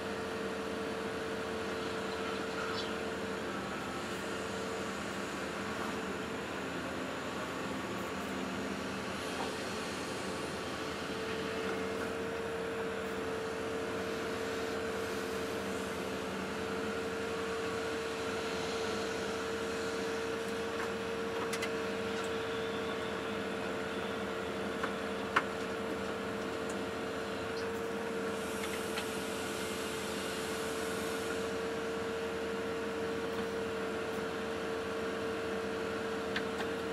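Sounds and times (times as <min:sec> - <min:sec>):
excavator engine hum: 0:00.0 - 0:36.9.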